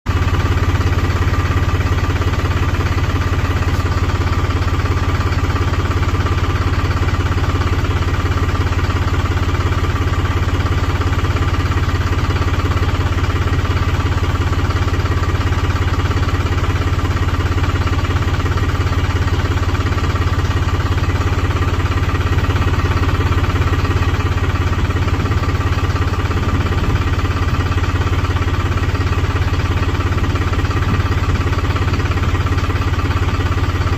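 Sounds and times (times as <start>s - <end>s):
engine humming steadily: 0.1s - 33.9s.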